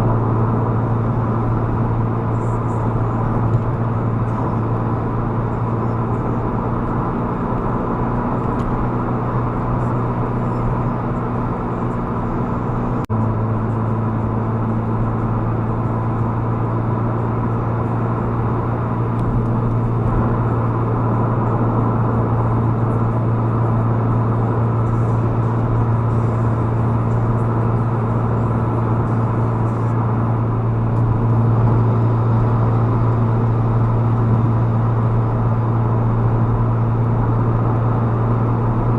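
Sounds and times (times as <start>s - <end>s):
road noise hiss: 0.0s - 38.9s
vehicle engine drone: 0.0s - 38.9s.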